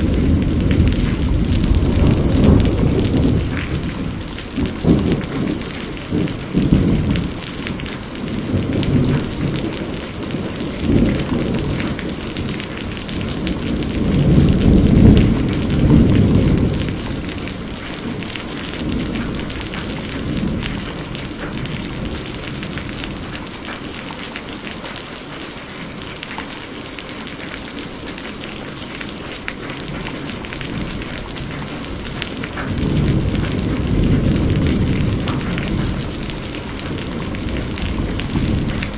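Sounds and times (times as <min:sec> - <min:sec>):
thunder rumbling: 0:00.0 - 0:24.3, 0:29.5 - 0:38.9
heavy rain: 0:00.0 - 0:38.9.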